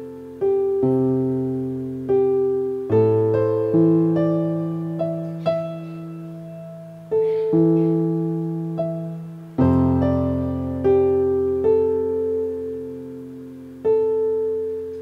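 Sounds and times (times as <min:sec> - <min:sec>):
piano chords on keyboard: 0:00.0 - 0:15.0.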